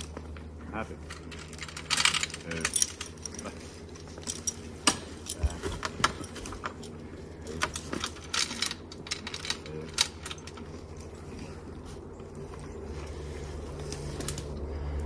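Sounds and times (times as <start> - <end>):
steady low hum: 0.0 - 15.0
metallic clinks and jingles: 0.9 - 14.7.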